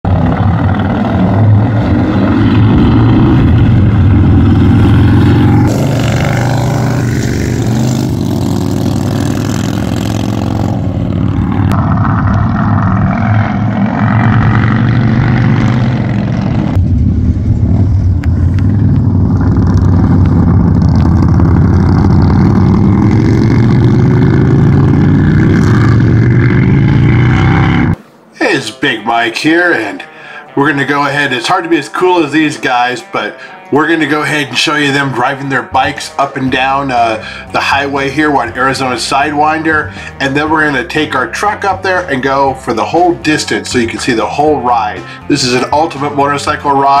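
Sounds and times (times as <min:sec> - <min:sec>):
motorcycle engines accelerating: 0:00.1 - 0:28.0, 0:33.4 - 0:47.0.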